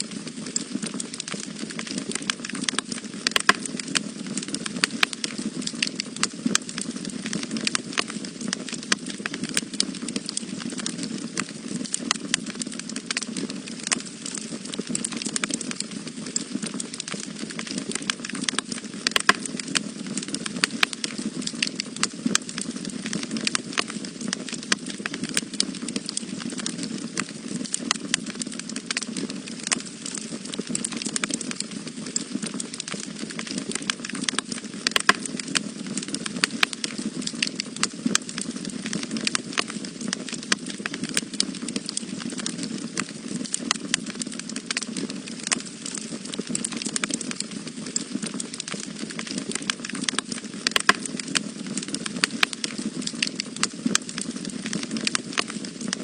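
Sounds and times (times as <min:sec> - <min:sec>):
fire crackling: 0:00.0 - 0:56.0
low rush of flames: 0:00.0 - 0:56.0
sharp pops of wood fire: 0:00.0 - 0:56.0.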